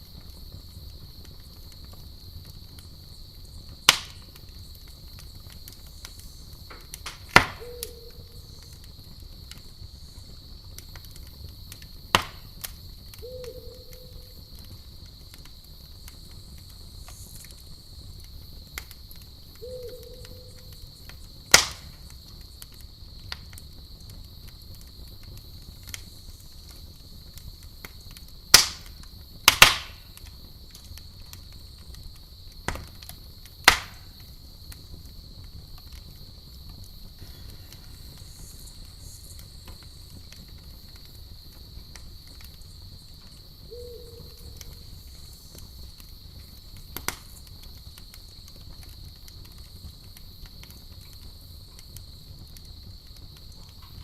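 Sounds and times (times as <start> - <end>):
campfire popping: 0.0 - 54.0
crickets chirring: 0.0 - 54.0.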